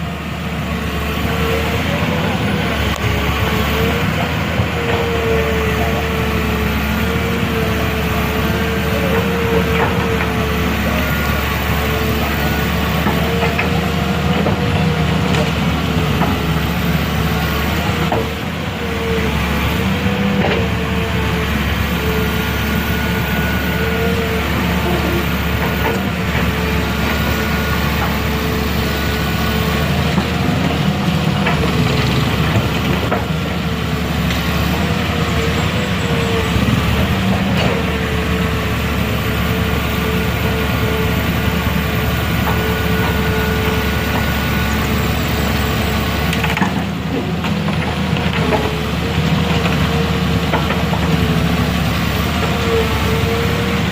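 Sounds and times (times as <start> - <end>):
truck engine rumbling: 0.0 - 53.9.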